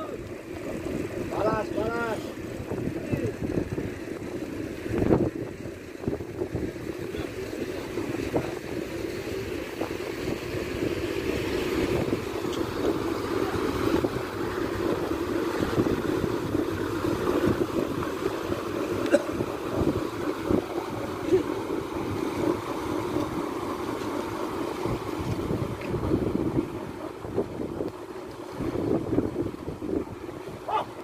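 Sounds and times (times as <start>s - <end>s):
boat engines running: 0.0s - 31.0s
water churning: 0.0s - 31.0s
wind on microphone: 0.7s - 31.0s.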